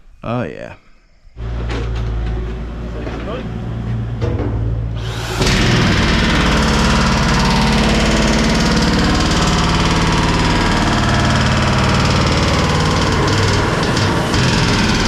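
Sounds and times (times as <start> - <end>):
loud engine humming: 1.4 - 15.0.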